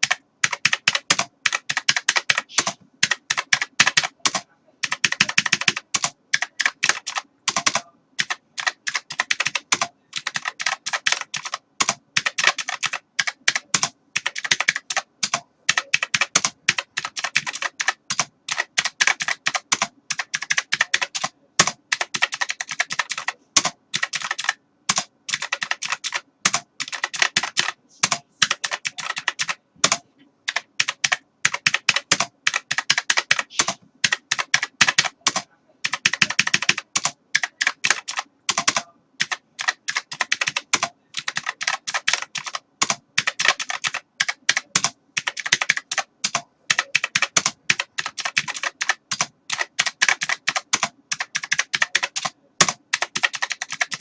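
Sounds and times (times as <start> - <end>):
keyboard typing: 0.0 - 54.0.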